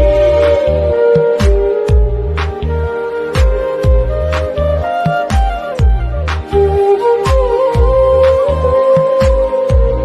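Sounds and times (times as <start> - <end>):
wavering melody line: 0.0 - 10.0.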